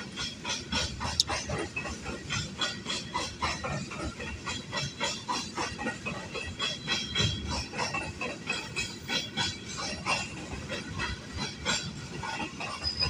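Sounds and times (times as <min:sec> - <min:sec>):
train wheels clacking: 0:00.0 - 0:13.0.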